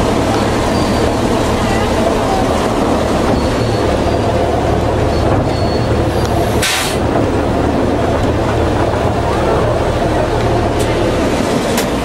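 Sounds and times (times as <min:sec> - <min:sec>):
railcar engine drone: 0:00.0 - 0:12.0
wheels running on rails: 0:00.0 - 0:12.0.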